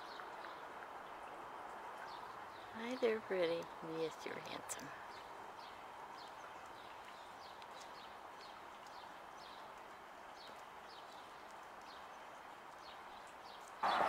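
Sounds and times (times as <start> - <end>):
bird chirping: 0.0 - 14.0
steady outdoor hum: 0.0 - 14.0.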